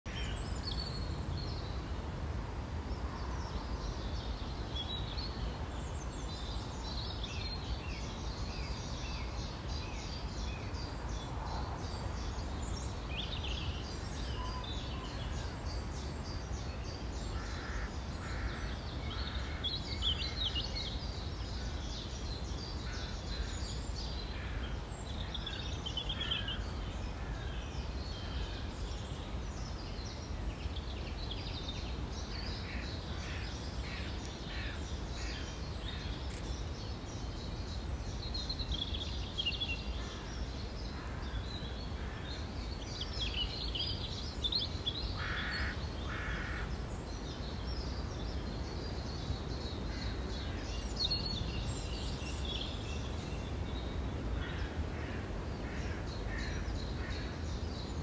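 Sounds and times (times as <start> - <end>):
songbirds singing and calling: 0.1 - 58.0.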